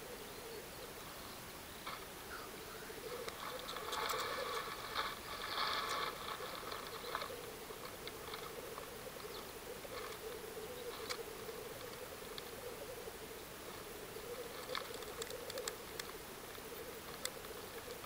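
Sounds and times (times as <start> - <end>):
grouse bubbling coo: 0.0 - 18.0.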